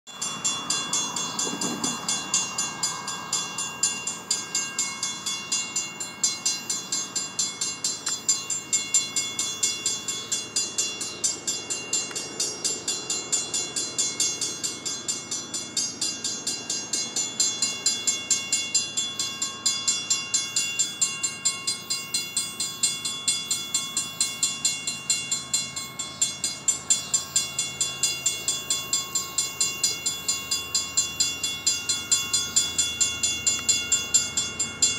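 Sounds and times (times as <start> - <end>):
railroad crossing bell ringing: 0.1 - 34.9.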